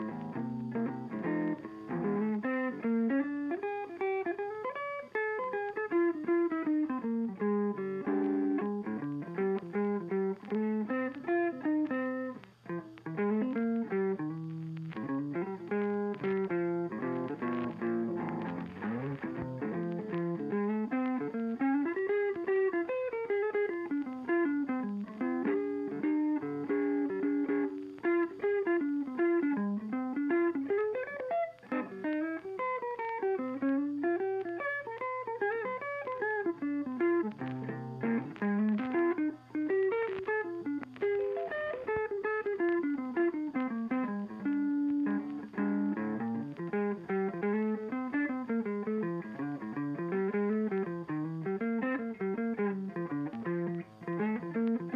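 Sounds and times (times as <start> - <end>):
guitar melody: 0.0 - 54.9.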